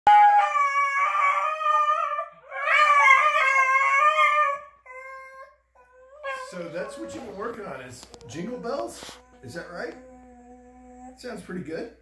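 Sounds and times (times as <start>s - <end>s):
dog howling: 0.1s - 11.2s.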